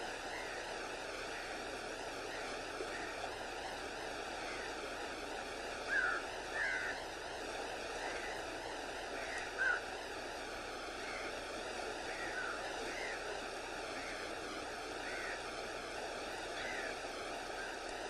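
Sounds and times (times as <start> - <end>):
choppy water rushing: 0.0 - 18.0.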